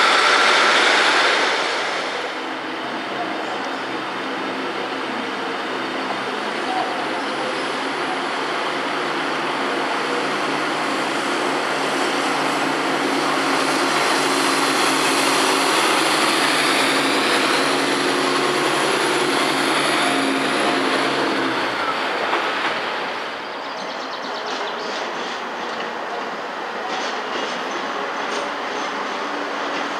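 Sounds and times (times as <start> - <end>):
train passing: 0.0 - 29.9.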